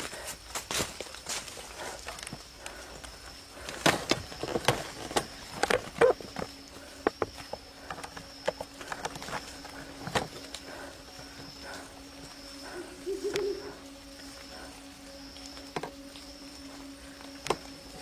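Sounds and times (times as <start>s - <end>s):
cracks and snaps of dry leaves: 0.0s - 18.0s
high insect drone: 0.0s - 18.0s
low steady hum: 0.0s - 18.0s.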